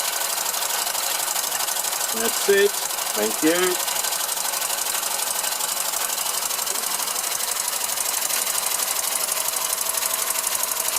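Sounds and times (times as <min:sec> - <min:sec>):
small air engine running: 0:00.0 - 0:10.9.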